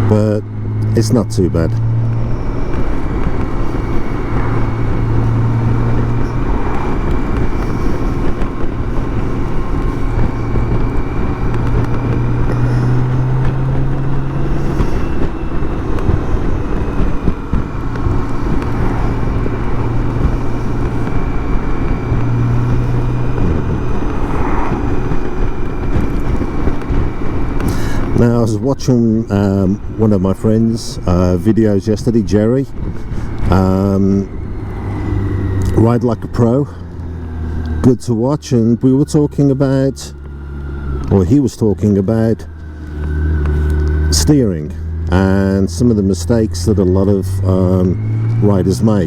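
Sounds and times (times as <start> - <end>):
motorcycle engine running: 0.0 - 49.0
wind and road noise: 0.0 - 49.0.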